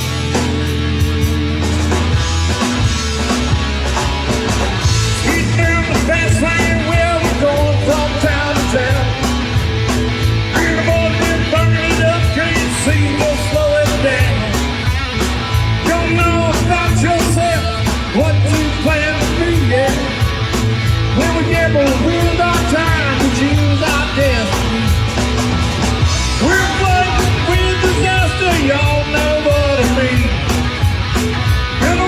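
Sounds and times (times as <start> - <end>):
bass guitar: 0.0 - 32.0
drum kit beat: 0.0 - 32.0
electric guitar: 0.0 - 32.0.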